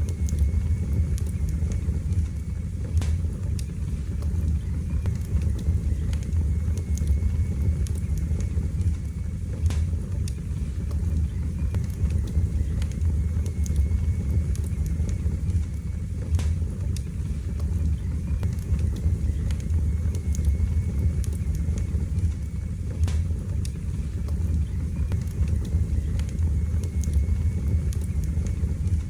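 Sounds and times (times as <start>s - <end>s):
fire crackles and pops: 0.0s - 29.0s
fire flames rumbling: 0.0s - 29.0s.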